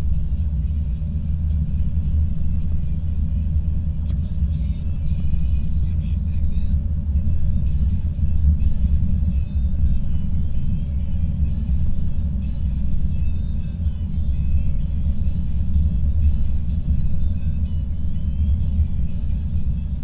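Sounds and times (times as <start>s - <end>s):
car driving at highway speed: 0.0s - 20.0s.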